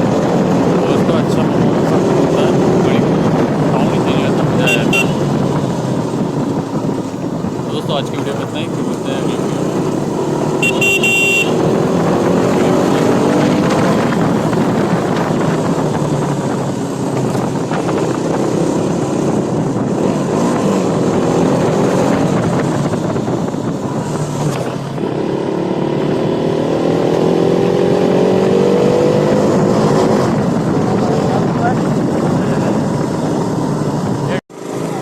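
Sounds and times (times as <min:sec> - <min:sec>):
motorcycle engine accelerating: 0:00.0 - 0:35.0
wind and road noise: 0:00.0 - 0:35.0.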